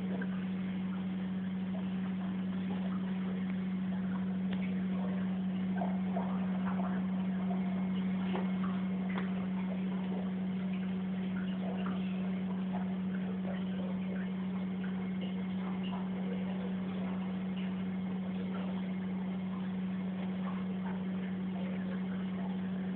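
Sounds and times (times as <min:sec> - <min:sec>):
aquarium equipment humming: 0:00.0 - 0:22.9.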